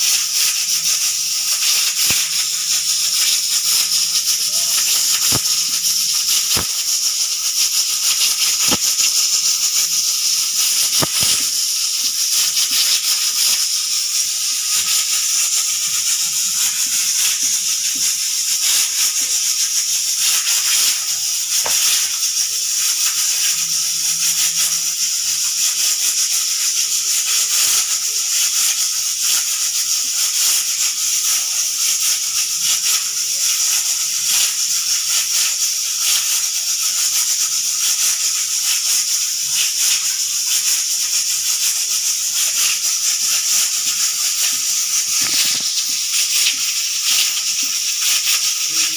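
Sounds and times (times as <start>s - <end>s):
pressure cooker hissing steam: 0.0s - 48.9s.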